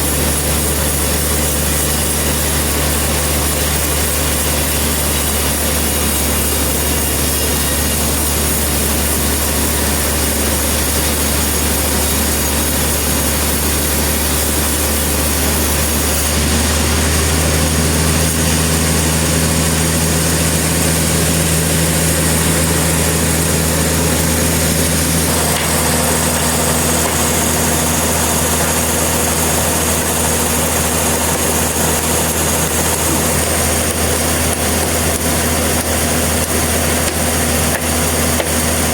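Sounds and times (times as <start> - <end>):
sawmill engine humming: 0.0 - 38.9.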